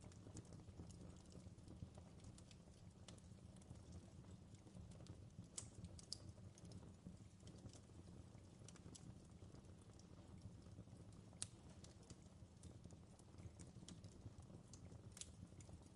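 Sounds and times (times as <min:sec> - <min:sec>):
campfire crackling and popping: 0:00.0 - 0:15.9.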